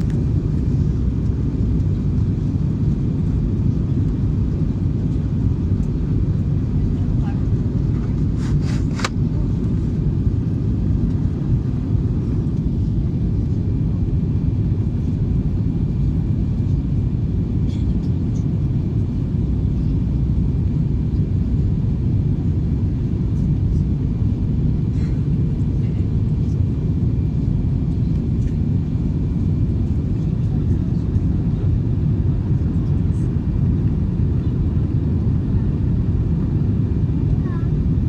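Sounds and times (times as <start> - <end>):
airliner cabin engine rumble: 0.0 - 38.0.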